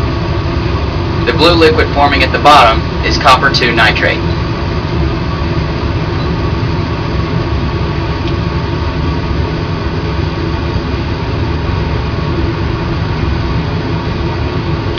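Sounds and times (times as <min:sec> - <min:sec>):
exhaust fan rumble of rushing air: 0:00.0 - 0:14.9.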